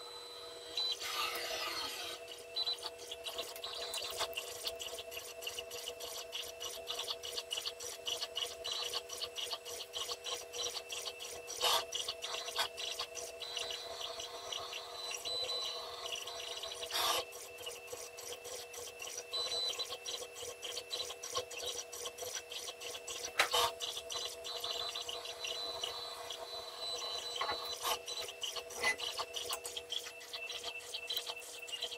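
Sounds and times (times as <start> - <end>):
stepper motors humming: 0.0 - 31.9.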